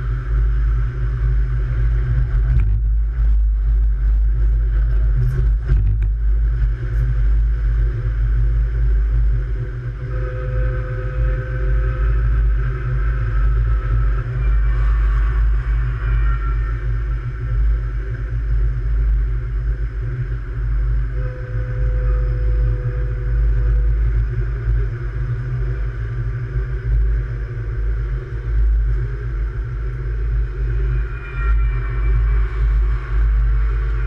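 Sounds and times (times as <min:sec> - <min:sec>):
faint whine: 0:00.0 - 0:34.0
light rail train rumbling: 0:00.0 - 0:34.0.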